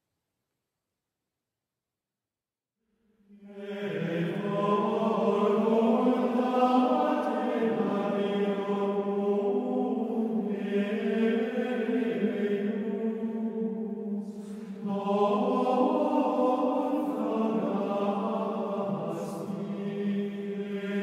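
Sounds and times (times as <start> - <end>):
men's choir chanting: 3.4 - 21.0.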